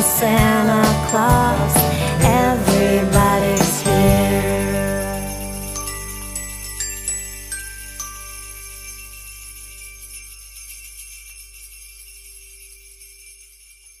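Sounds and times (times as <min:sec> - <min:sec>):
sleigh bells jingling: 0:00.0 - 0:14.0.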